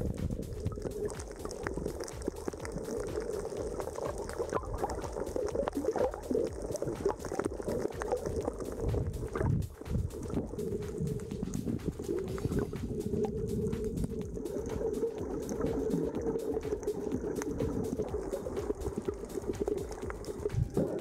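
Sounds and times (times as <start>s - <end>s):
faint underwater clicks: 0.0s - 21.0s
underwater bubbling and sloshing: 0.0s - 21.0s.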